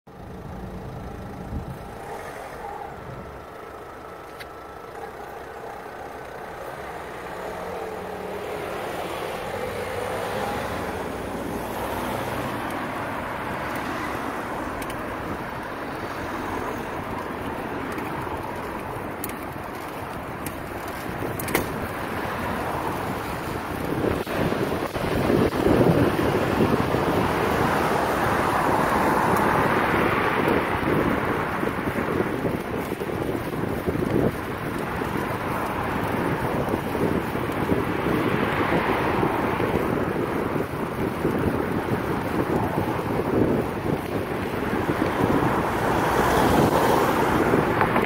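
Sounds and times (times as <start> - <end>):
street traffic: 0.0 - 48.0.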